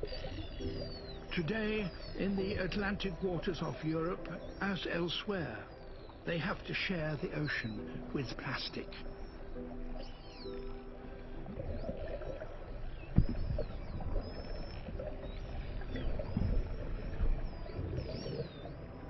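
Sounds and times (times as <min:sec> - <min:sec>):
whales whistling underwater: 0:00.0 - 0:06.4, 0:07.3 - 0:19.0
low rumbling background: 0:00.0 - 0:19.0.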